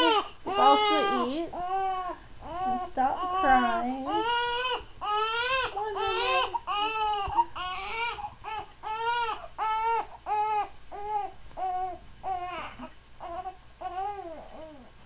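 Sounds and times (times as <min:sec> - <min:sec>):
baby crying: 0:00.0 - 0:14.9.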